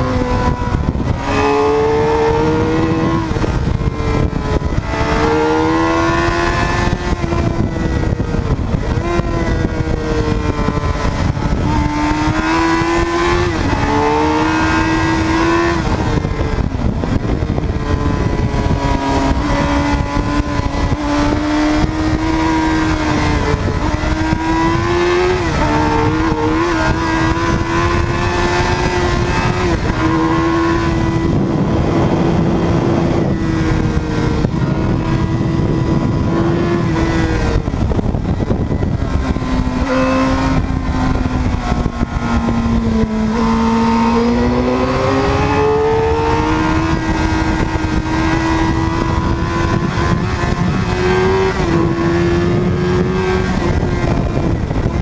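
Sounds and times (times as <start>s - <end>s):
motorcycle engine at speed: 0.0s - 55.0s
wind rumble on microphone: 0.0s - 55.0s.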